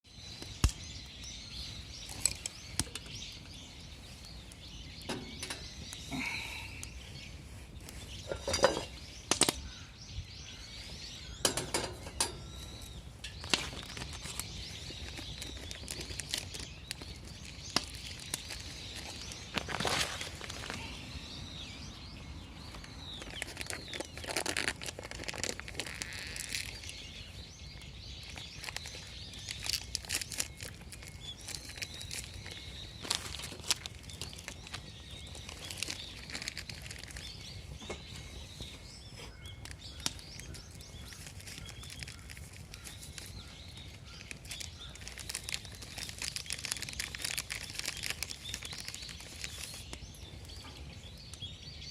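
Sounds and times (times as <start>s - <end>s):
birds chirping: 0.0s - 51.9s.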